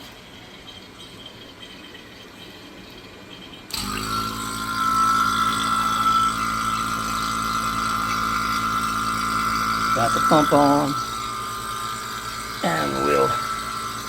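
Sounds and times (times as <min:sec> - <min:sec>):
vacuum pump humming and whining: 0:00.0 - 0:14.0.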